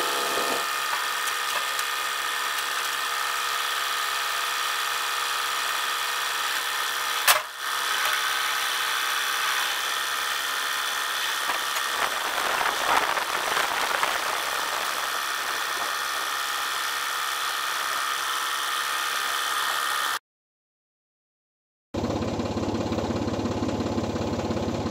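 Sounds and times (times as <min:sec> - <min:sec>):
tractor engine running with whine: 0:00.0 - 0:20.2, 0:22.0 - 0:24.9.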